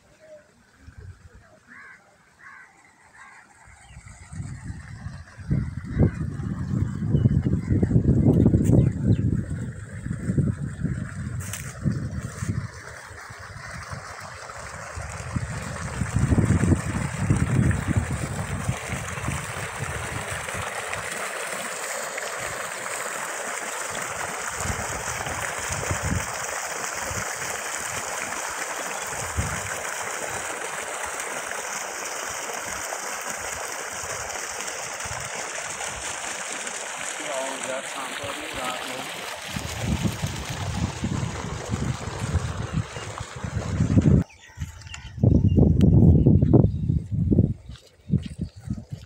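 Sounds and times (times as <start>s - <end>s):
water gushing from a pipe: 2.5s - 44.3s.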